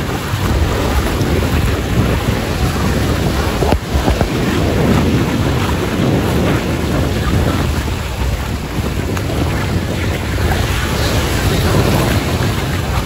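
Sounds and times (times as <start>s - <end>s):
waves breaking: 0.0s - 13.0s
wind buffeting microphone: 0.0s - 13.0s.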